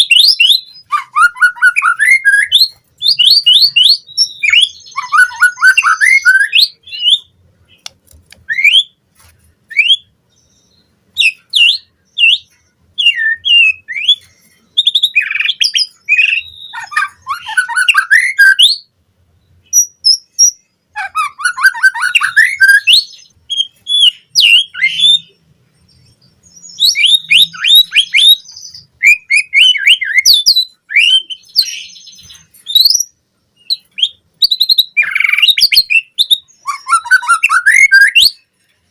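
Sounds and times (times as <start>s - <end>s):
songbird whistling and trilling: 0.0s - 9.0s, 9.7s - 18.9s, 19.6s - 38.5s.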